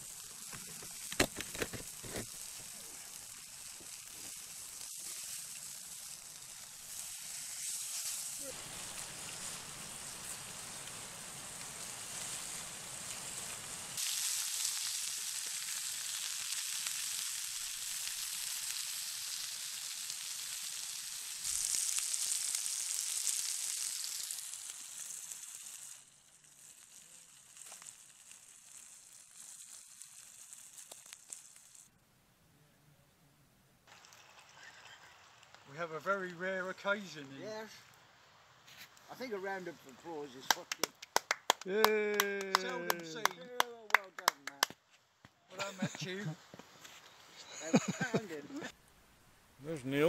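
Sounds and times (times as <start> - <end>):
food sizzling in a pan: 0.0 - 31.9, 33.9 - 40.5, 45.6 - 48.8.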